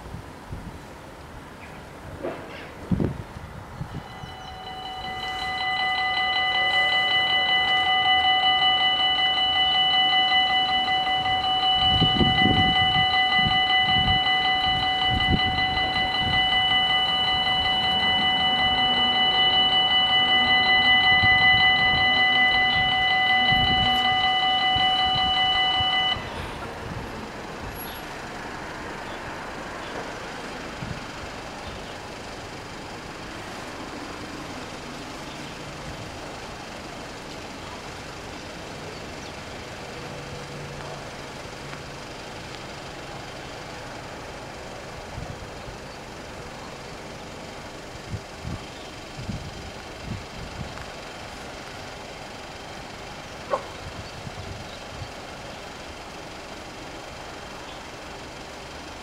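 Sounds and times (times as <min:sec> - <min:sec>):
road vehicles rumbling: 0:00.0 - 0:59.0
level crossing warning bells ringing: 0:03.0 - 0:59.0.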